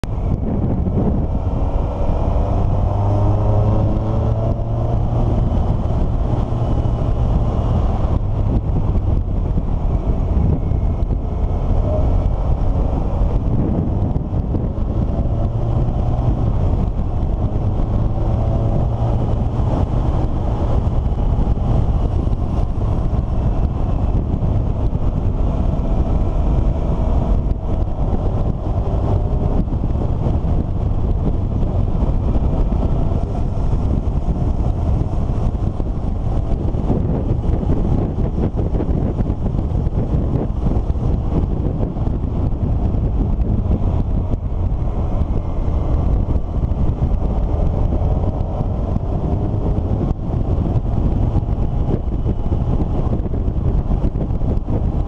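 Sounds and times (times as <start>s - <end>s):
vehicle engine accelerating: 0.0s - 55.0s.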